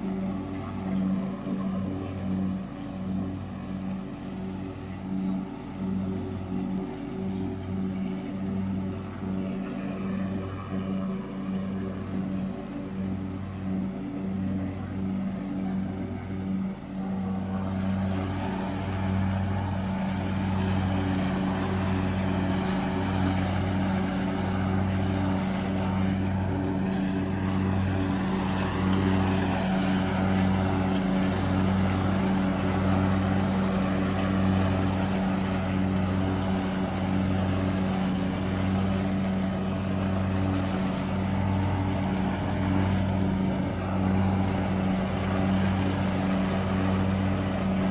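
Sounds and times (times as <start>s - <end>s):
lawn tractor engine mowing: 0.0s - 47.9s.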